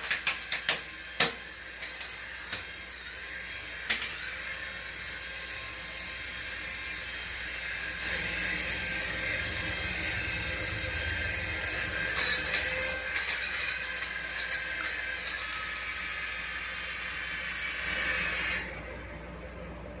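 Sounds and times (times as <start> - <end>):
small electric motor whining: 0.0 - 19.6.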